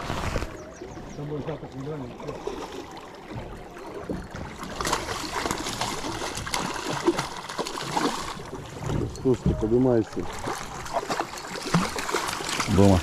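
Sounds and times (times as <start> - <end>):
fish splashing in water: 0.0 - 13.0.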